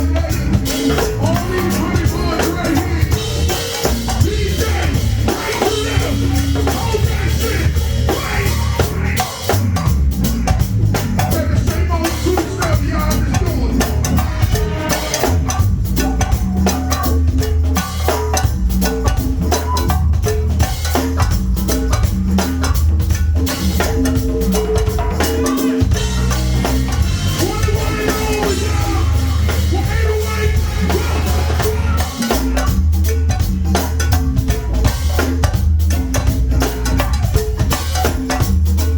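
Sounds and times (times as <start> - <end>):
band playing a driving groove: 0.0 - 38.9
heavy bass line: 0.0 - 38.9.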